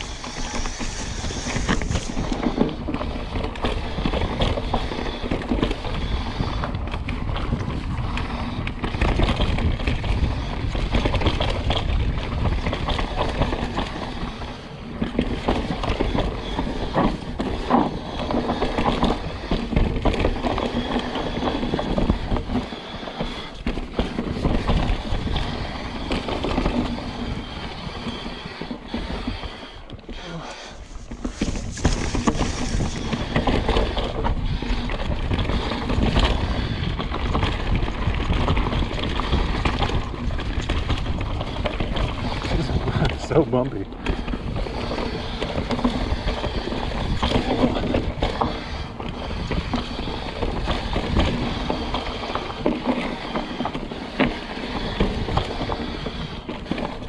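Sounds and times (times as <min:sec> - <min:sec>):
bike rattling: 0:00.0 - 0:57.0
bike tyres rumbling on dirt: 0:00.0 - 0:57.0
wind on microphone: 0:00.0 - 0:57.0.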